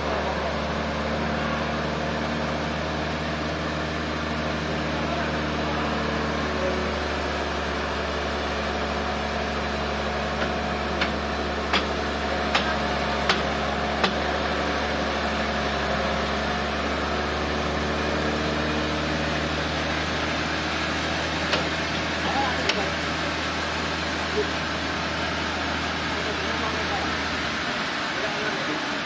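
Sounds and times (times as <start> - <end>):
sawmill machinery humming: 0.0 - 29.0.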